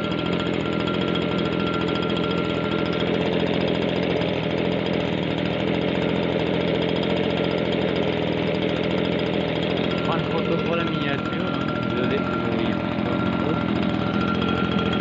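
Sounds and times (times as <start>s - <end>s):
leaf blower engine running: 0.0s - 15.0s.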